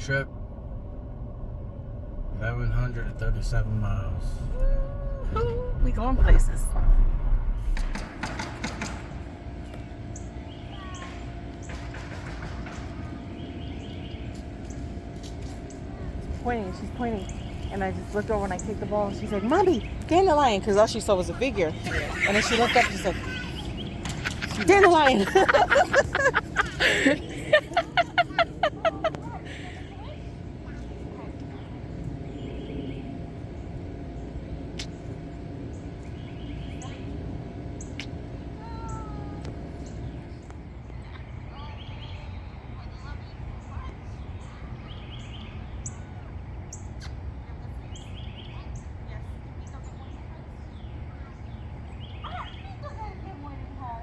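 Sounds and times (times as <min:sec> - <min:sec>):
vehicle engine hum: 0:00.0 - 0:51.6
steady low rumble: 0:00.0 - 0:54.0
birds chirping: 0:07.7 - 0:54.0.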